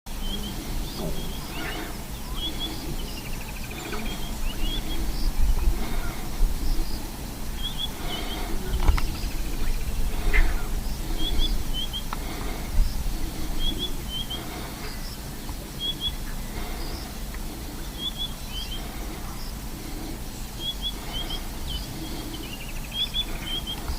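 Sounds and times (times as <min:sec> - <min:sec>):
bird chirping: 0:00.1 - 0:23.9
steady low rumble: 0:00.1 - 0:23.9.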